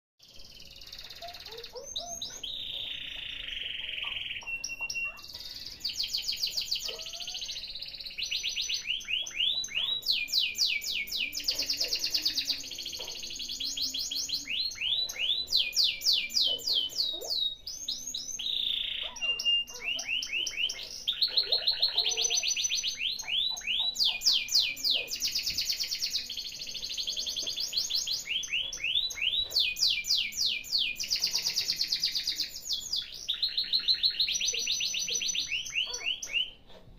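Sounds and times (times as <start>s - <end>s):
canary singing trills: 0.2s - 36.8s.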